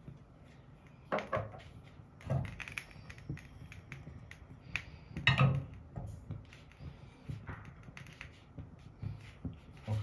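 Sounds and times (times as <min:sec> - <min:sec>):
hot fat crackling and spitting: 0:00.0 - 0:10.0.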